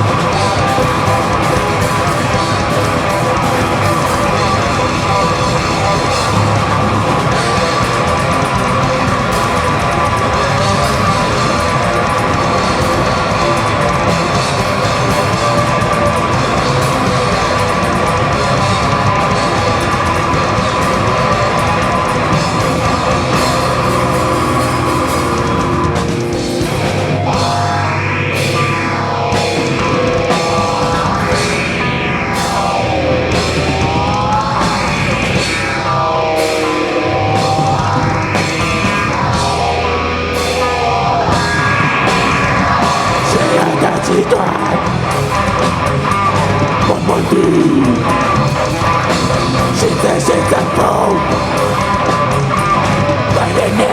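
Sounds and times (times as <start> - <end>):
heavy rock band playing: 0.0 - 53.9.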